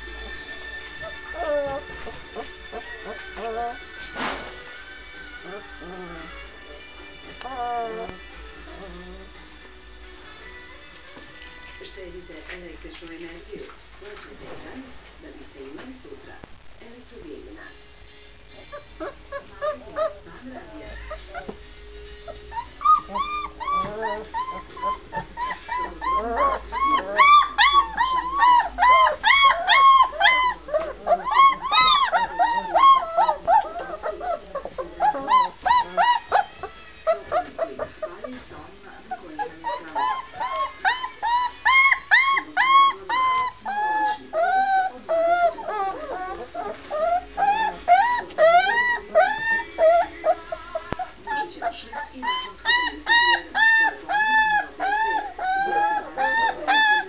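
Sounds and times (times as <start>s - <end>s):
puppies whimpering: 0.0s - 9.5s, 18.5s - 57.0s.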